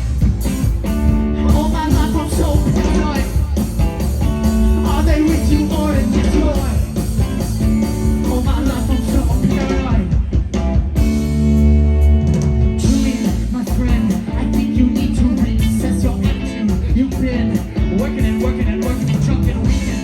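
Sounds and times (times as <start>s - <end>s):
bass guitar: 0.0s - 20.0s
drums and cymbals: 0.0s - 20.0s
electric guitar: 0.0s - 20.0s.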